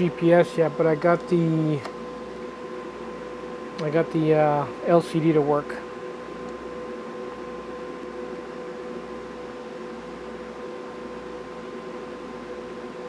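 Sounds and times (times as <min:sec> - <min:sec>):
fan humming with hiss: 0:00.0 - 0:13.0.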